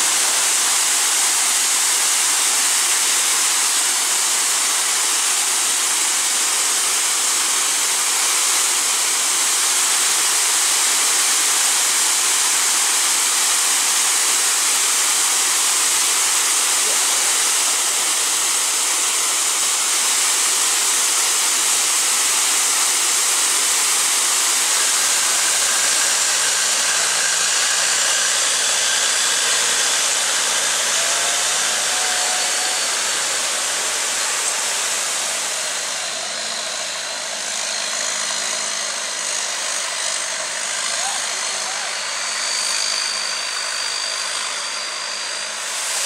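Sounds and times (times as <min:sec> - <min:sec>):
waterfall rushing: 0:00.0 - 0:41.0, 0:45.6 - 0:46.0
boat engine drone: 0:00.0 - 0:46.0.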